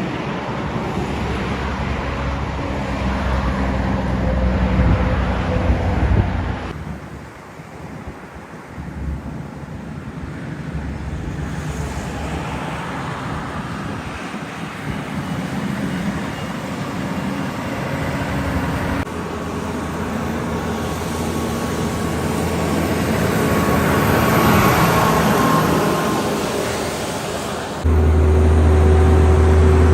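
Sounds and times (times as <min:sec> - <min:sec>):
heavy truck engine: 0:00.0 - 0:07.3, 0:08.8 - 0:29.9.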